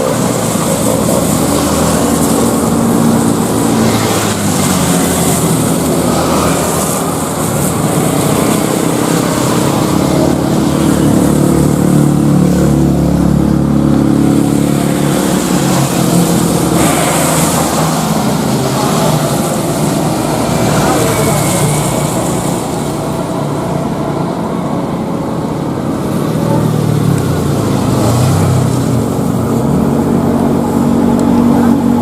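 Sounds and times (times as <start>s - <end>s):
jet airliner engines rumbling: 0.0s - 32.0s.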